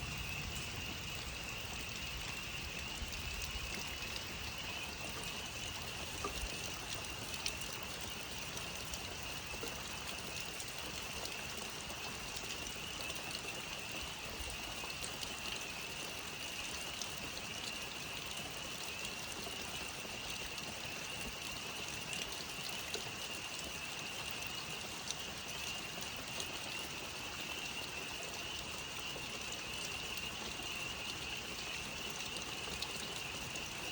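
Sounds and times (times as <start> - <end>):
frogs chorus calling: 0.0 - 33.9.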